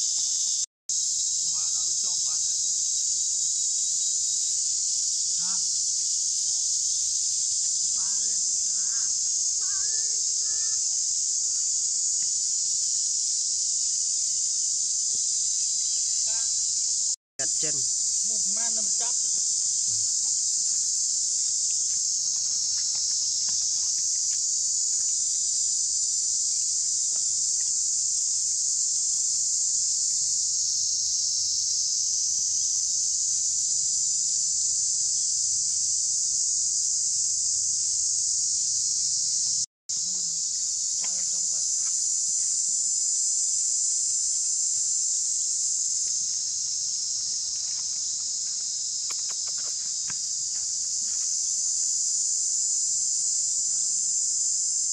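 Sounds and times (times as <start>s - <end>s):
insects shrilling: 0.0s - 54.9s.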